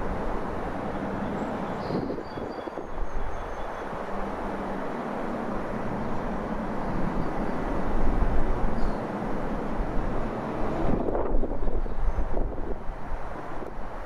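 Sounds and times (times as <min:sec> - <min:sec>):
freight train passing: 0:00.0 - 0:14.0
wind gusting on microphone: 0:00.0 - 0:14.0.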